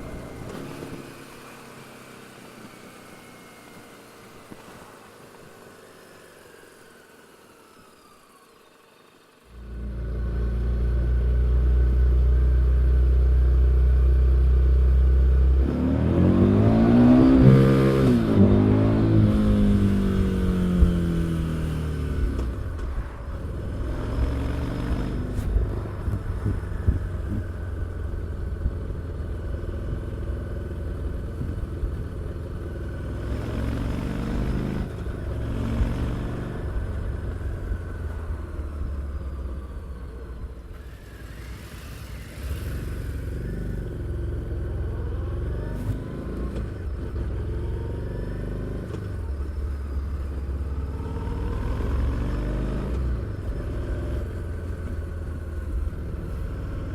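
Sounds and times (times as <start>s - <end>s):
motorcycle engine revving: 9.5s - 56.9s.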